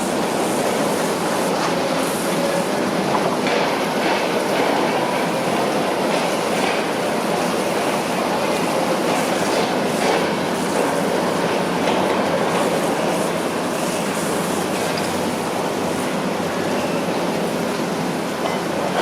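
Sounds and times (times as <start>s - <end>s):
construction machinery clatter: 0.0s - 19.0s.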